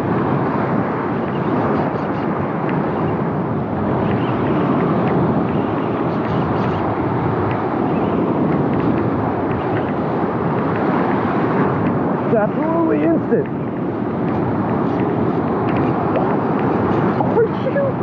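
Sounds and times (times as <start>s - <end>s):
wind: 0.0s - 18.0s
wind buffeting microphone: 0.0s - 18.0s.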